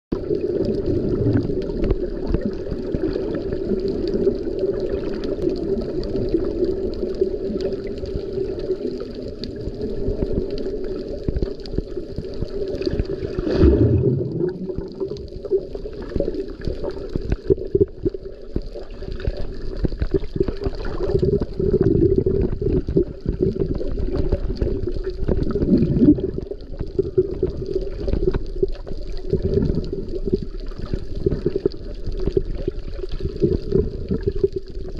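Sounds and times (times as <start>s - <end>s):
muffled underwater rush: 0.1s - 34.9s
underwater whoosh: 0.2s - 34.9s.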